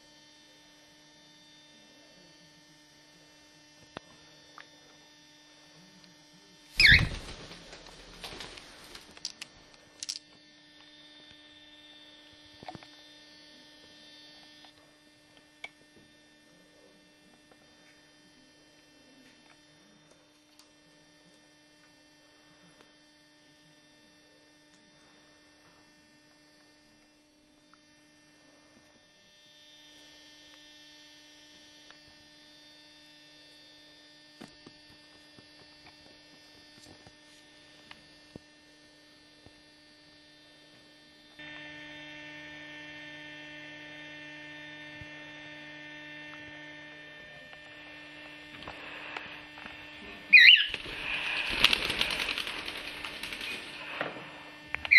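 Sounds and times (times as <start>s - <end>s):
faint electrical hum: 0.0s - 54.9s.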